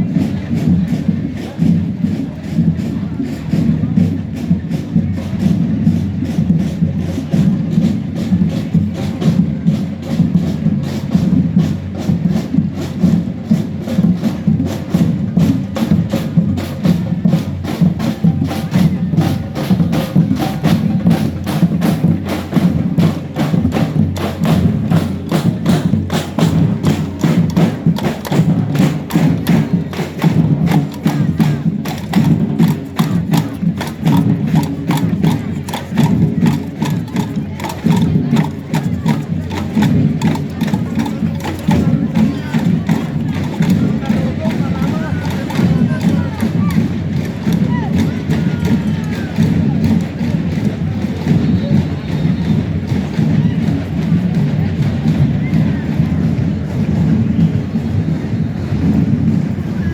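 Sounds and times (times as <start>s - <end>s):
low drum beat: 0.0s - 59.9s
percussion band playing: 0.0s - 59.9s.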